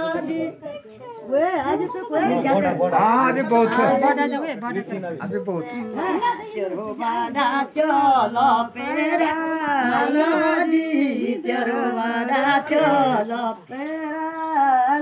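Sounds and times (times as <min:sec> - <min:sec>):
women singing together: 0:00.0 - 0:04.9, 0:05.7 - 0:15.0.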